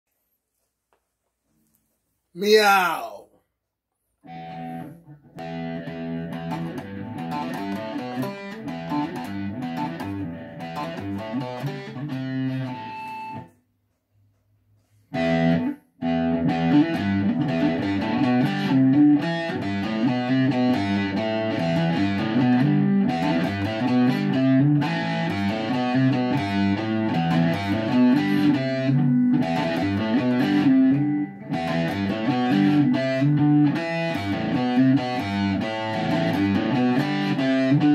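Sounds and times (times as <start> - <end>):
electric guitar playing: 4.2 - 13.5, 15.2 - 37.9.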